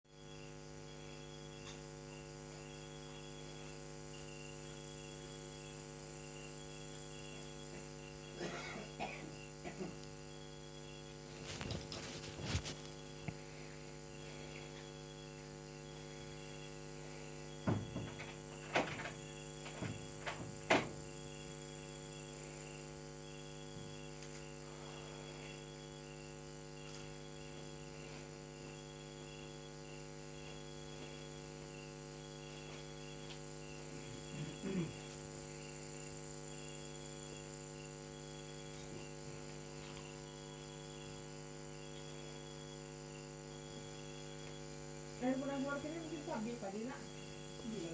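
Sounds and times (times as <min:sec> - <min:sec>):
electrical hum: 0:00.1 - 0:47.9.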